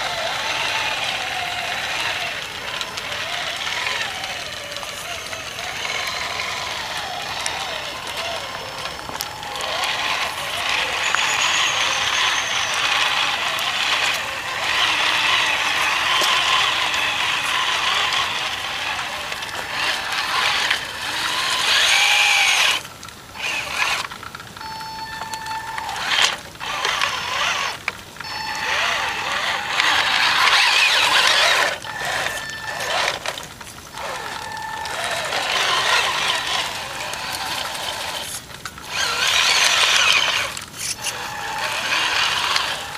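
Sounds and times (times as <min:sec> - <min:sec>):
driving over dry leaves: 0:00.0 - 0:42.9
toy truck motor whining: 0:00.0 - 0:42.9.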